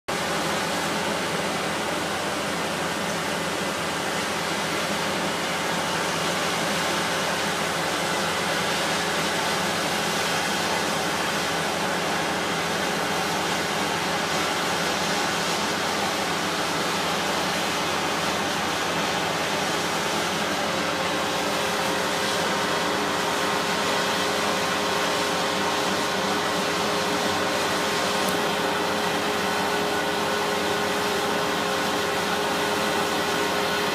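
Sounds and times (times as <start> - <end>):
machinery engines droning: 0.2 - 33.9.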